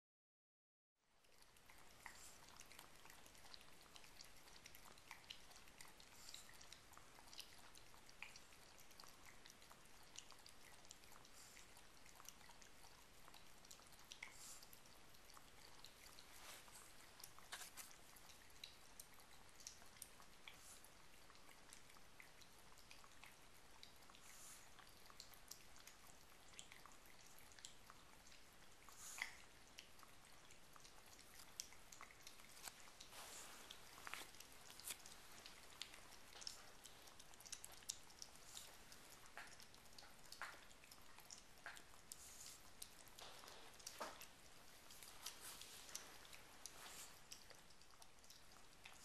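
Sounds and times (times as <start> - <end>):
puppy lapping water: 1.2 - 49.0.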